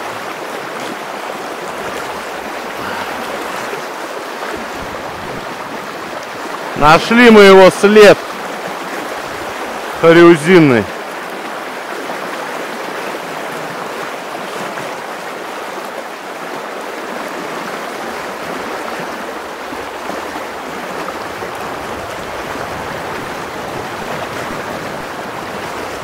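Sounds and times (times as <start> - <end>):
river current rushing and splashing: 0.0 - 26.0.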